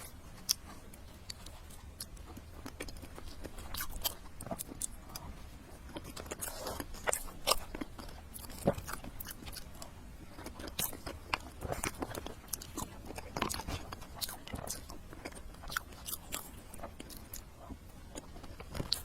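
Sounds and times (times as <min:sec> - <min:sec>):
person biting and chewing: 0:00.0 - 0:05.2, 0:05.8 - 0:19.0.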